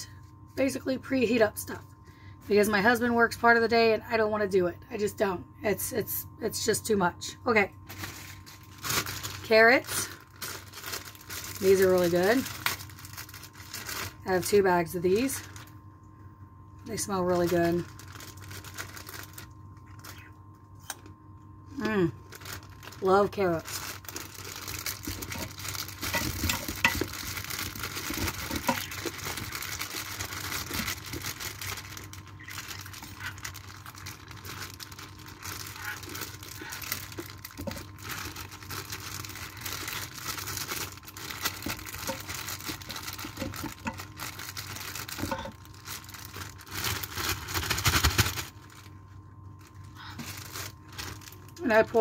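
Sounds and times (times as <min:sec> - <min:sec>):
plastic bag crinkling: 0:07.8 - 0:15.9, 0:16.9 - 0:20.5, 0:21.8 - 0:52.0.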